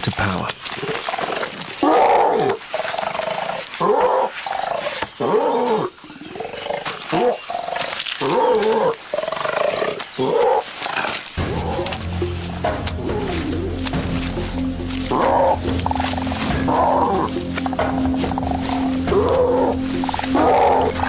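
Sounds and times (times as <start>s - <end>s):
orangutans calling: 0.0s - 21.0s.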